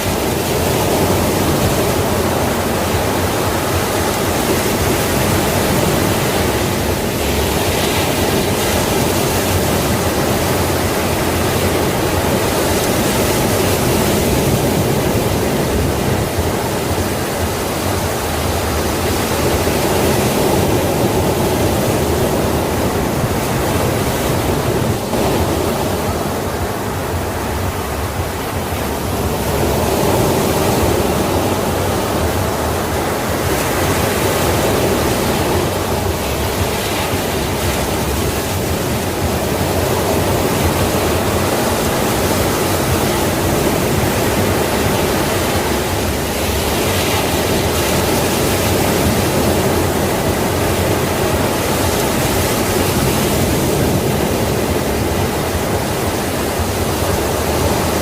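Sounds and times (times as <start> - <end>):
surf roaring on shore: 0.0 - 58.0.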